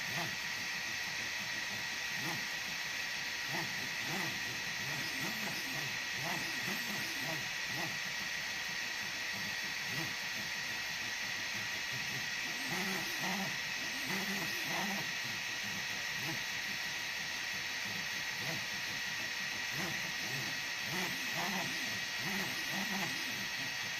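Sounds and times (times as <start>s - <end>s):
fan hiss with high whine: 0.0s - 23.9s
stepper motors whirring: 0.0s - 23.9s.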